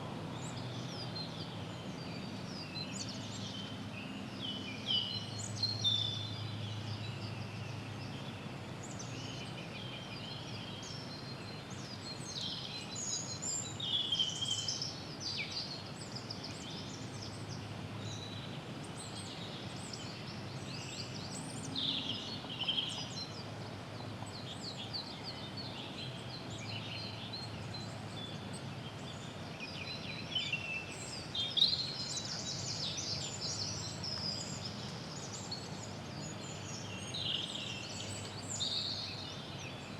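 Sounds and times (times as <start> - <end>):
birds chirping and trilling: 0.0 - 39.9
steady background hiss: 0.0 - 39.9.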